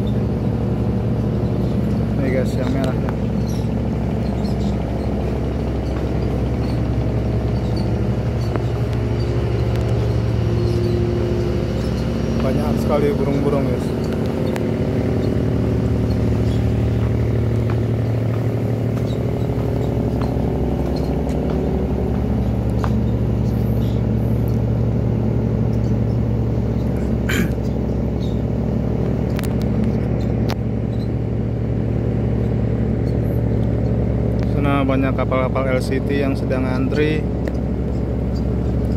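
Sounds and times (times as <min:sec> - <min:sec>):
ship engine humming: 0:00.0 - 0:38.9.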